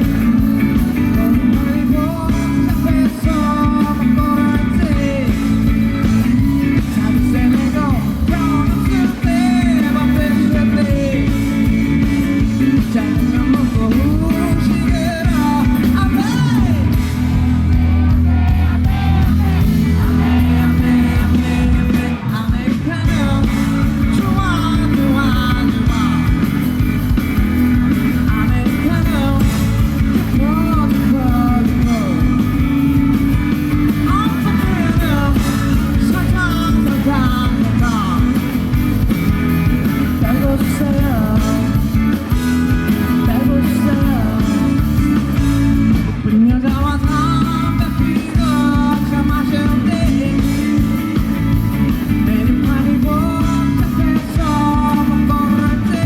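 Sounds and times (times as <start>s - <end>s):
man singing: 0.0s - 38.8s, 39.9s - 56.0s
live pop band: 0.0s - 56.0s.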